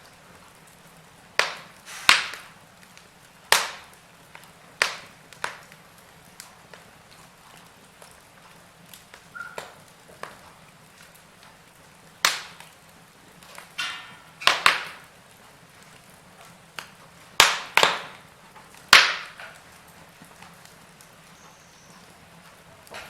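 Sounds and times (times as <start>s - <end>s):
low hiss of burning: 0.0s - 23.0s
wood fire crackling and popping: 0.0s - 23.0s.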